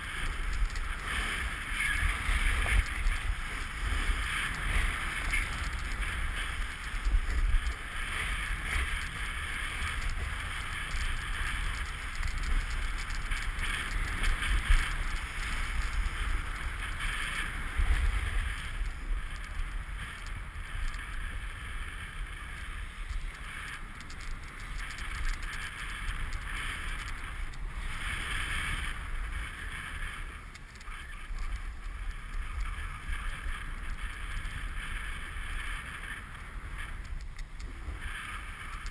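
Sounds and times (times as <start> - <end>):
snowboard scraping over snow: 0.0 - 38.9
wind noise on microphone: 0.0 - 38.9.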